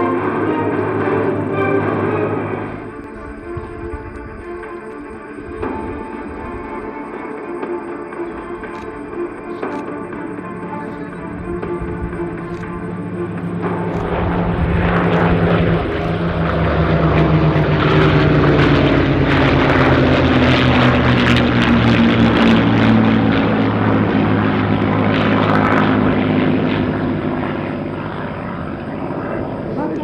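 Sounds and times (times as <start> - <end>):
propeller planes droning past: 0.0 - 30.0.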